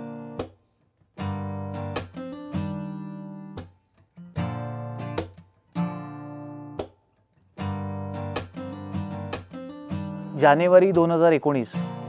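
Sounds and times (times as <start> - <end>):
strummed acoustic guitar chords: 0.0 - 12.0.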